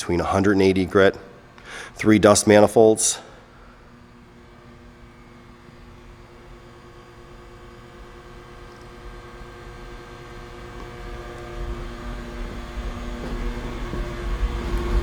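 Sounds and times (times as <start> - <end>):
mechanical hum with held tones: 0.0 - 15.0.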